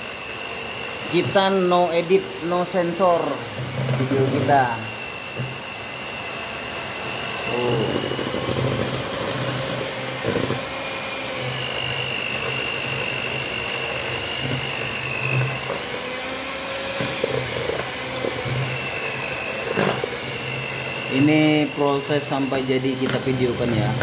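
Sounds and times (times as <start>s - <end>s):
electric hand mixer whine: 0.0s - 24.0s
beaters churning paste: 0.5s - 24.0s.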